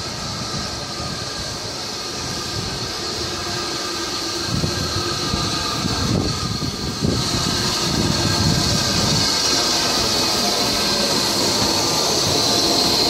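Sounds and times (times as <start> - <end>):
steam hiss: 0.0 - 13.0
steam locomotive rumbling: 0.0 - 13.0.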